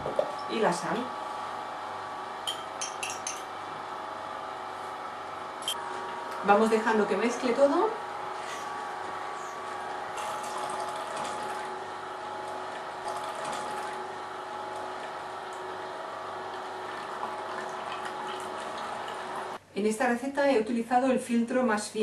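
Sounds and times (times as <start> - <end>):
slow juicer whirring: 0.0 - 19.6.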